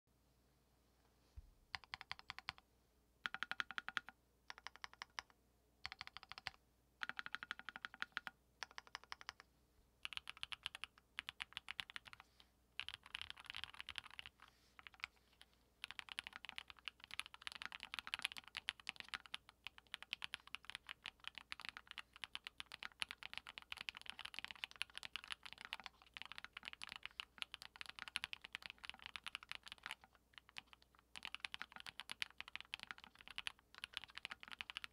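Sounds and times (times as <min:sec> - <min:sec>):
mechanical keyboard typing: 0:01.8 - 0:02.6, 0:03.2 - 0:09.4, 0:10.0 - 0:12.2, 0:12.8 - 0:15.1, 0:15.8 - 0:34.9.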